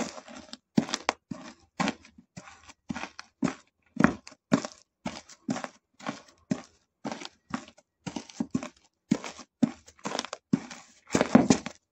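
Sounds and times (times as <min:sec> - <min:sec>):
fried dough crunching underfoot: 0:00.0 - 0:11.9.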